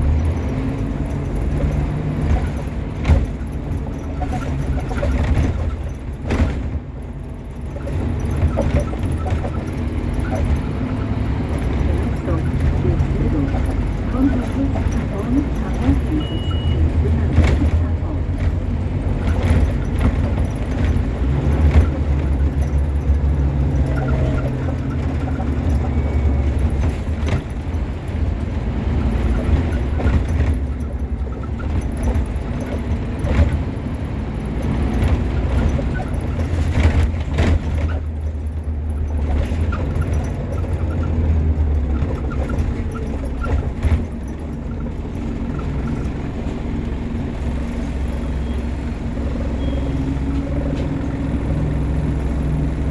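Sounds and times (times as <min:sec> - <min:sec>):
bus body clicks and rattles: 0:00.0 - 0:52.9
bus diesel engine running: 0:00.0 - 0:52.9.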